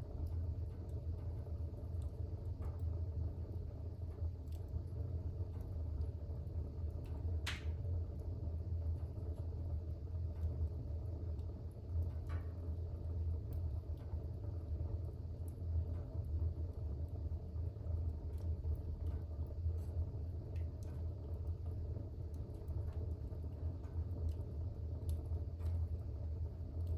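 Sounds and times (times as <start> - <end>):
fire burning in fireplace: 0.0 - 26.9
fire crackles and pops: 0.0 - 26.9.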